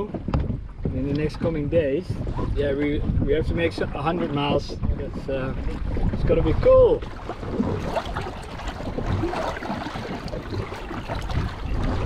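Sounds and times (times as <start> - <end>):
seawater splashing and gurgling: 0.0 - 12.0.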